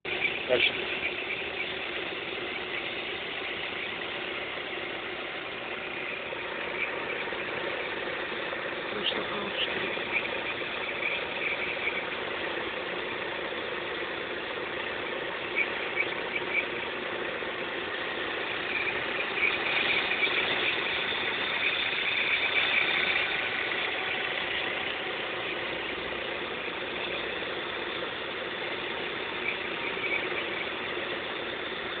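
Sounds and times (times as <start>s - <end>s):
car engine running: 0.0s - 32.0s
high-pitched squeal chirps: 0.1s - 32.0s.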